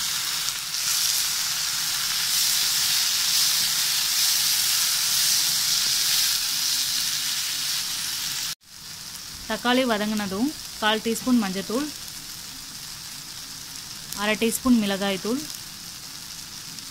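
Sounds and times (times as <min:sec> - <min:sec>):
food sizzling in a pan: 0:00.0 - 0:16.9.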